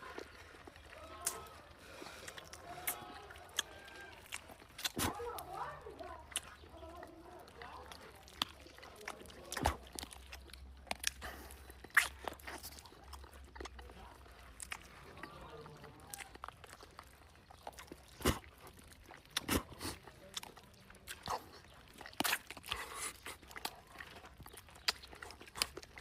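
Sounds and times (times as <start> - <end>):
person chewing chicken: 0.0 - 26.0
wet smacks and clicks: 0.0 - 26.0.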